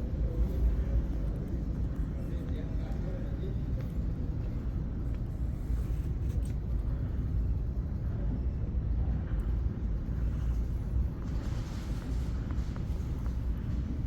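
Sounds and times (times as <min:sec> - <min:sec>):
low rumble of indoor hall: 0:00.0 - 0:14.0.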